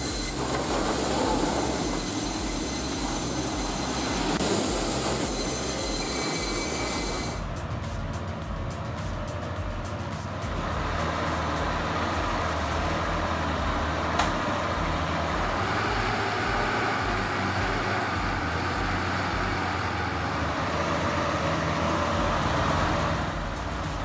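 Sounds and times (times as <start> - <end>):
heavy vehicle engine droning: 0.0 - 24.0.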